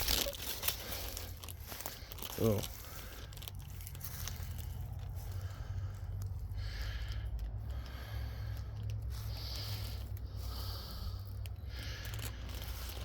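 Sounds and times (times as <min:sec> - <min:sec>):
person breathing: 0:00.0 - 0:13.0
steady low rumble: 0:00.0 - 0:13.0.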